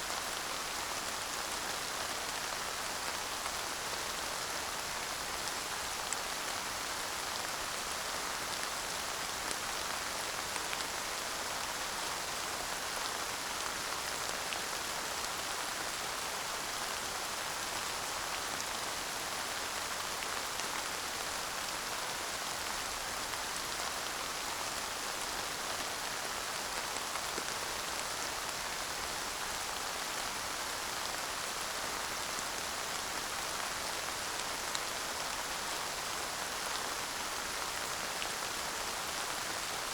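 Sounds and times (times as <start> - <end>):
light rain hiss: 0.0 - 39.9.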